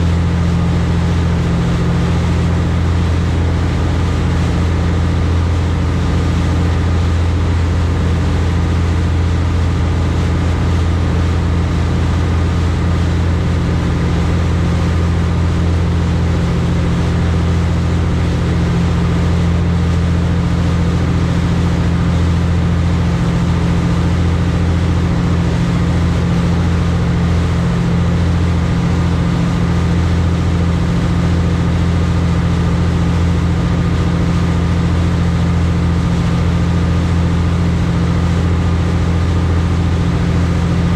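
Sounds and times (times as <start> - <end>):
boat engines droning: 0.0 - 40.9.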